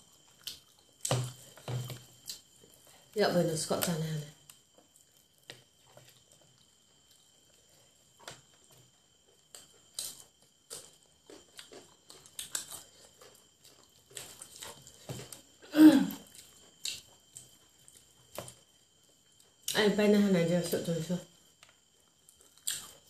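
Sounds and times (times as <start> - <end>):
soft chewing: 0.0 - 3.2, 4.3 - 19.8, 21.4 - 23.0.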